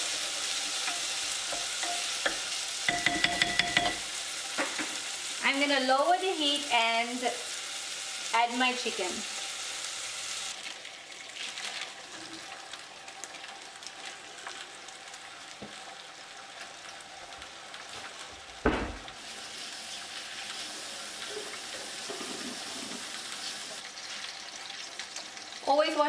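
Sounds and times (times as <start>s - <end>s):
chicken frying quiet sizzle: 0.0s - 26.0s.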